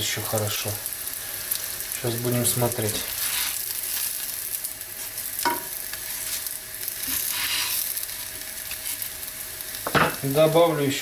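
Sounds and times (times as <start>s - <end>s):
cutlets sizzling in oil: 0.0s - 11.0s.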